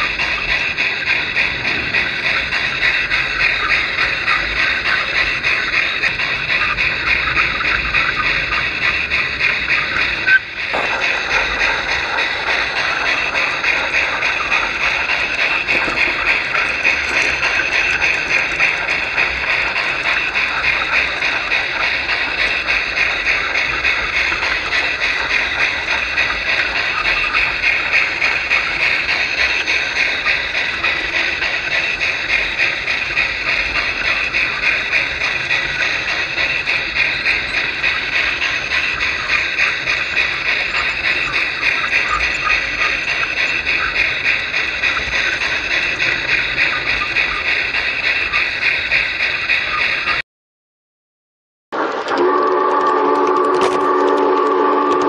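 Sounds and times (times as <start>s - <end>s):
model train rolling hiss: 0.0s - 50.2s, 51.8s - 55.0s
train wheel clicks: 0.0s - 50.2s, 51.8s - 55.0s.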